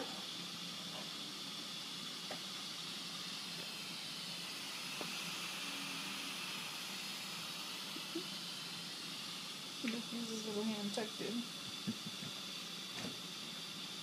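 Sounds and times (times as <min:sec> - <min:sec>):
air hissing through breathing machine: 0:00.0 - 0:14.0.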